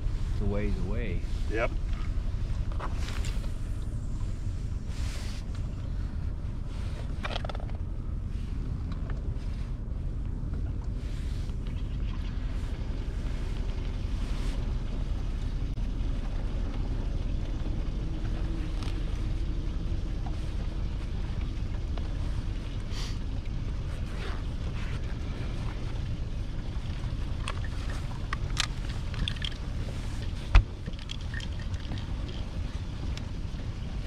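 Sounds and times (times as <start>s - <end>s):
boat engine rumble: 0.0s - 34.0s
wind and water hiss: 0.0s - 34.0s.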